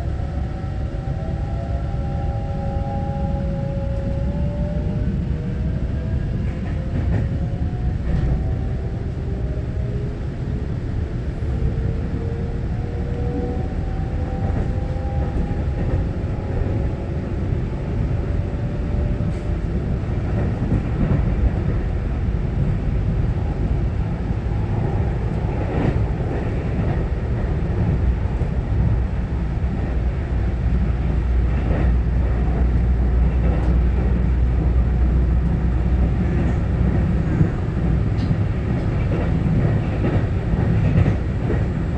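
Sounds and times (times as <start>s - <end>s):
train wheels rumbling: 0.0s - 41.9s.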